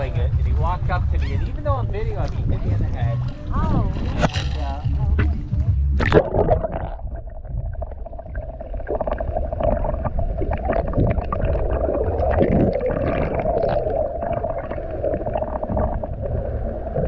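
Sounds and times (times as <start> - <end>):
low underwater rumble: 0.0 - 17.0.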